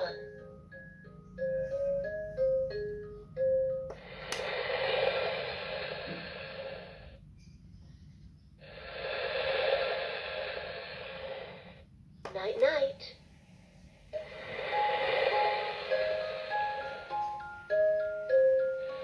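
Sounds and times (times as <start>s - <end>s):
toy speaker playing soothing hiss: 0.0s - 7.6s, 8.2s - 19.0s.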